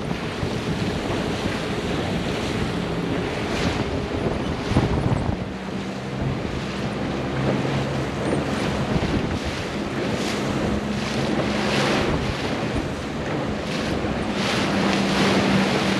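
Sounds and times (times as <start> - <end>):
low engine hum: 0.0 - 15.9
water splashing around boat: 0.0 - 15.9
wind rushing over microphone: 0.0 - 15.9.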